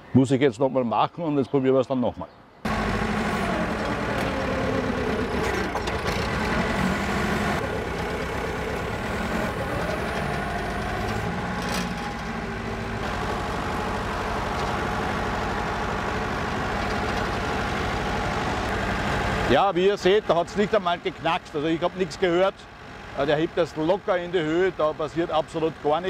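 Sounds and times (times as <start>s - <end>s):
forklift engine running under load: 2.7s - 26.0s.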